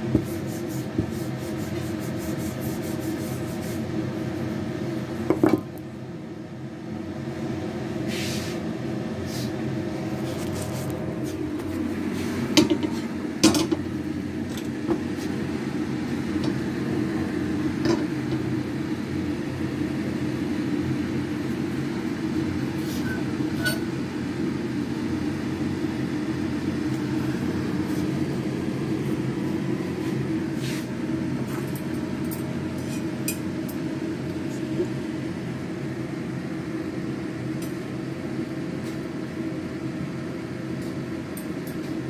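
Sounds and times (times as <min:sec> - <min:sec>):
kitchen fan hum: 0:00.0 - 0:42.0.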